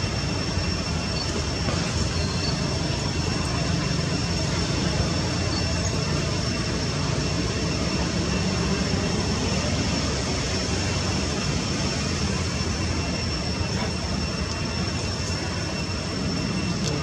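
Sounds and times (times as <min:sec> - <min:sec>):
low engine drone: 0:00.0 - 0:17.0
thin high steady tones: 0:00.0 - 0:17.0.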